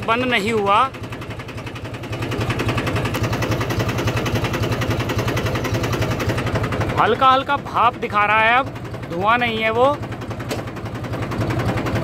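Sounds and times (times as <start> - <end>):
tractor diesel engine labouring: 0.0 - 12.0.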